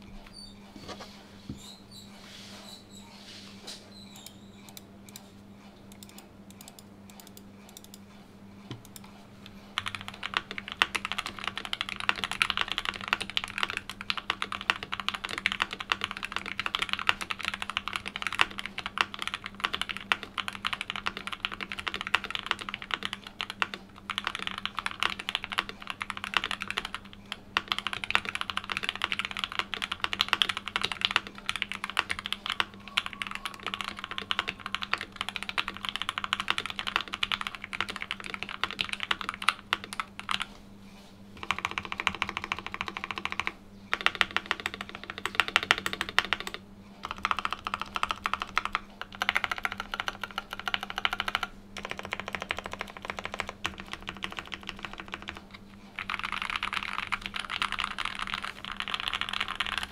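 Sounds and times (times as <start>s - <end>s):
fast typing on mechanical keyboard: 9.7s - 40.5s, 41.4s - 59.9s.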